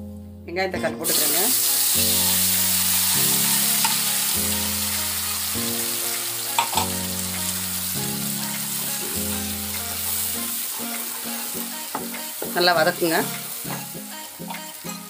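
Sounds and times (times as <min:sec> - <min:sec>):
background music with held notes: 0:00.0 - 0:15.0
onion paste sizzling in oil: 0:01.0 - 0:15.0.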